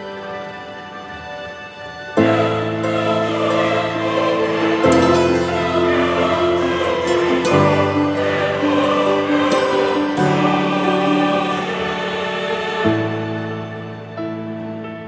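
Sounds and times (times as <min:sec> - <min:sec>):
slow cinematic music: 0:00.0 - 0:15.0.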